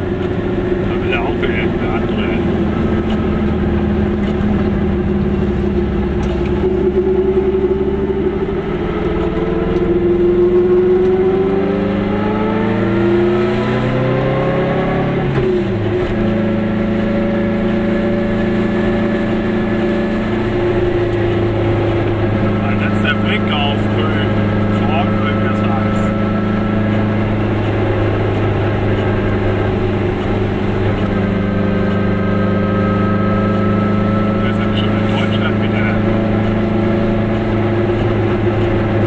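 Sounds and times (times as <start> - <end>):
two-stroke car engine from inside: 0.0 - 39.0.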